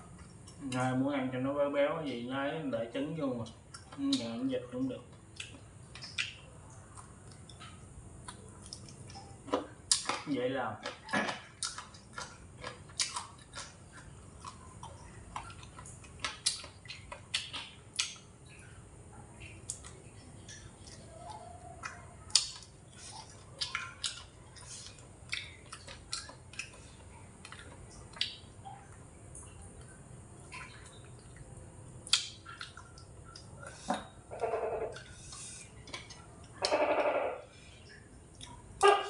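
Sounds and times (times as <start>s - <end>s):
person chewing ribs: 0.0s - 0.9s, 3.4s - 39.0s.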